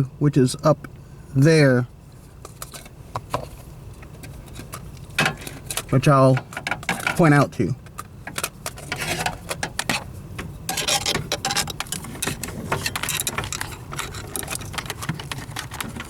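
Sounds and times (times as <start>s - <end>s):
steady low hum: 0.0s - 16.0s
handling clicks and rattles: 2.5s - 16.0s.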